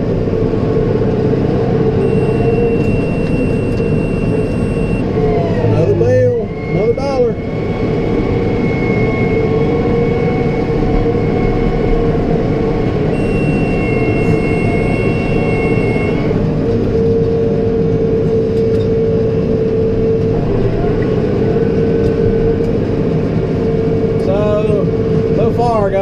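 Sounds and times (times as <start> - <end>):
baler whine: 0.0 - 26.0
tractor running: 0.0 - 26.0.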